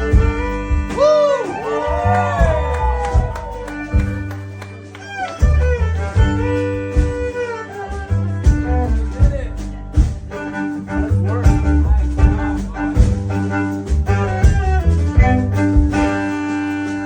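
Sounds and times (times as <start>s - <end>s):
music with beat strings and bass: 0.0s - 17.0s.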